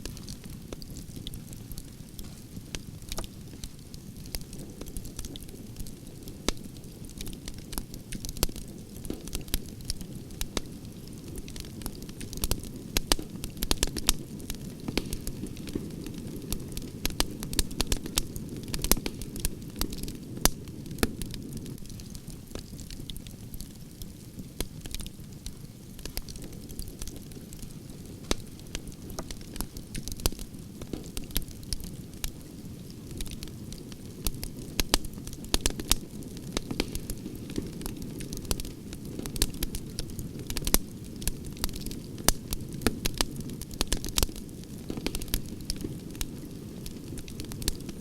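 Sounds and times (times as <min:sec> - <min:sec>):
campfire flames rumbling: 0:00.0 - 0:48.0
fire crackles and pops: 0:00.0 - 0:48.0.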